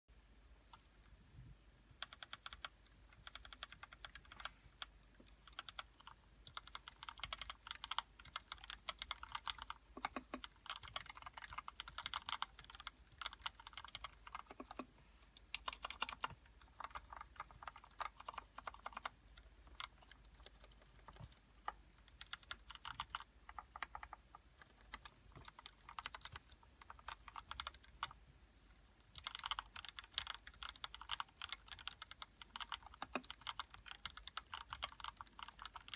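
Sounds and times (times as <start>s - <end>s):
typing on mechanical keyboard: 2.0s - 28.2s, 29.1s - 35.9s.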